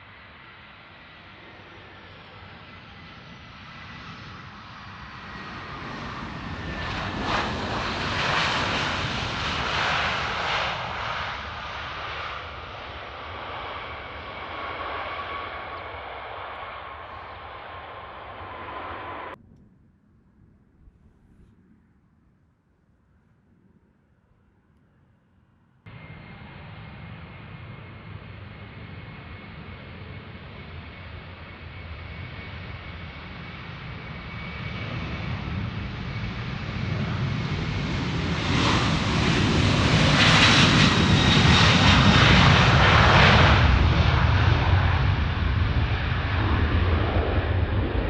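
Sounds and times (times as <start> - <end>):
jet engines at takeoff: 0.0 - 22.3, 23.4 - 48.0.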